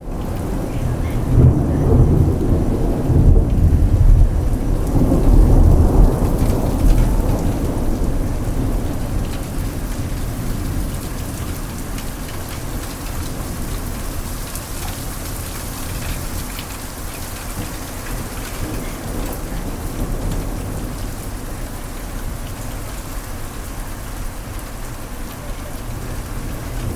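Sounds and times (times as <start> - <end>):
steady rain: 0.0 - 26.9
thunder rumbling: 0.0 - 26.9.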